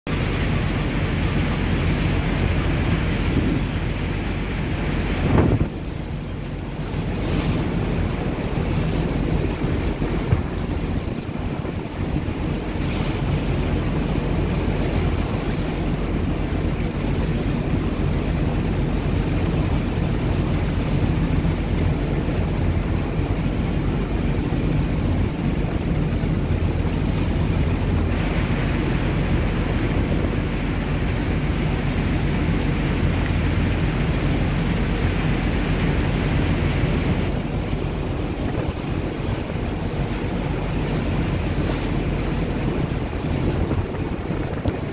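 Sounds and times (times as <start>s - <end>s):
waves washing: 0.1s - 44.9s
wind buffeting microphone: 0.1s - 44.9s.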